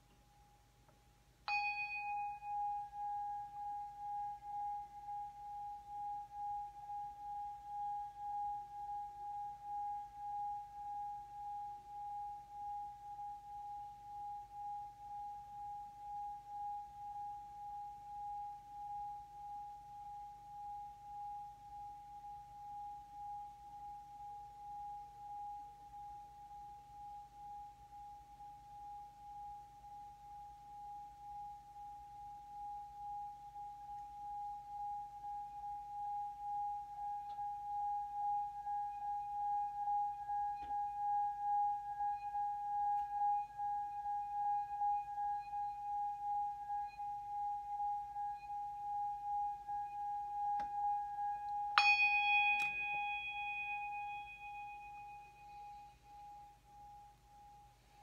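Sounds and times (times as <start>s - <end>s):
singing bell steady tone: 1.4s - 58.0s.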